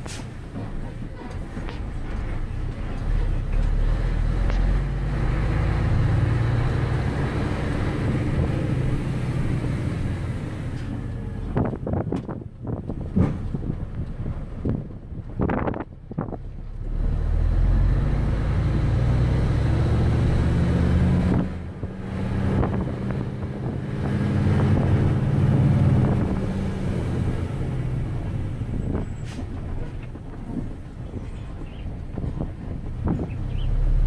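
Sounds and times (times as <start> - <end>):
truck diesel engine from cab: 0.0 - 34.0.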